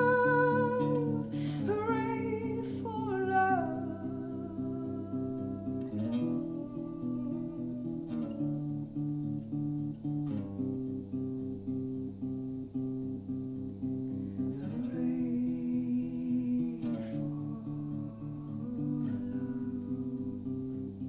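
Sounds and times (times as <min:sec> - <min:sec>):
clean electric guitar arpeggio: 0:00.0 - 0:21.0.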